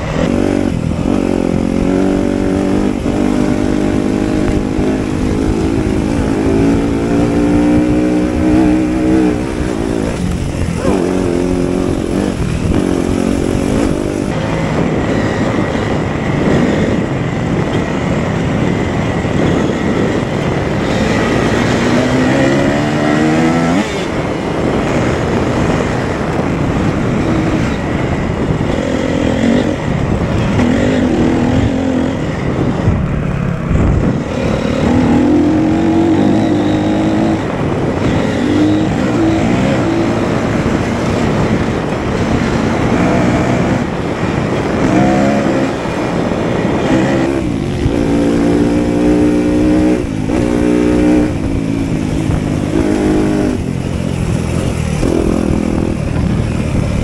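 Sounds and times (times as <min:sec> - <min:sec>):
motocross bike engine revving: 0:00.0 - 0:57.0
rushing noise: 0:00.0 - 0:57.0.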